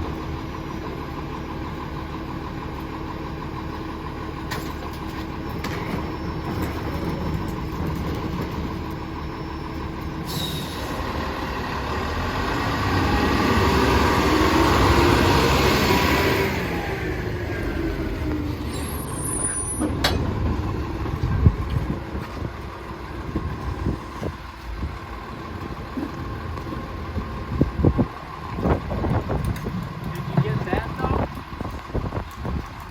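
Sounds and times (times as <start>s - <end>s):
garbage truck running: 0.0s - 32.9s.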